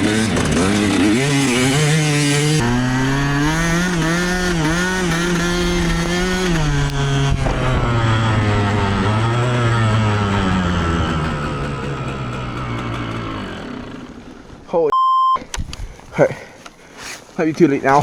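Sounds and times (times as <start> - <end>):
two-stroke dirt bike engine revving: 0.0 - 14.8.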